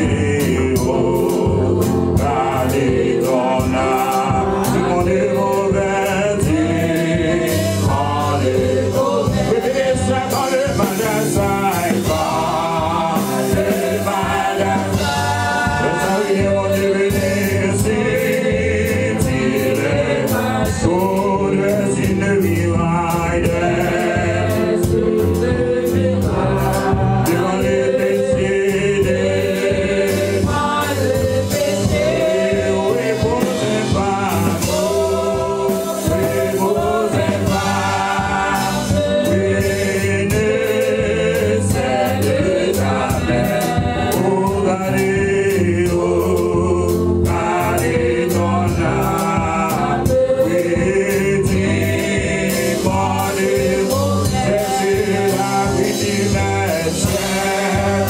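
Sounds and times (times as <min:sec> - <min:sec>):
women singing: 0:00.0 - 0:22.3, 0:22.9 - 0:58.0
man singing lead: 0:00.0 - 0:26.2, 0:27.0 - 0:58.0
music with steady beat: 0:00.0 - 0:58.0.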